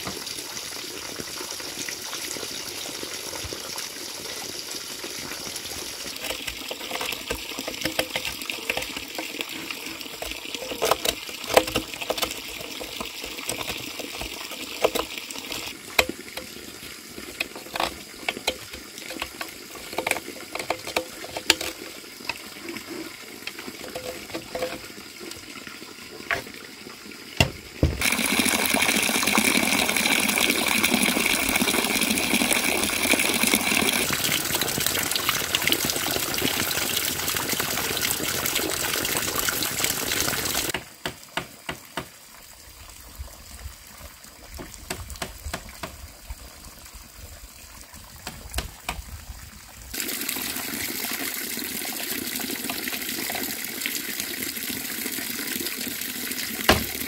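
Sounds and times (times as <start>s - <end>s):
water running and splashing: 0.0s - 57.0s.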